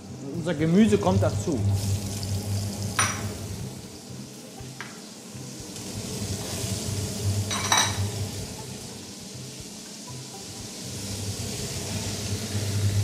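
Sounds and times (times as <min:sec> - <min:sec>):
sizzling frying: 0:00.0 - 0:13.0.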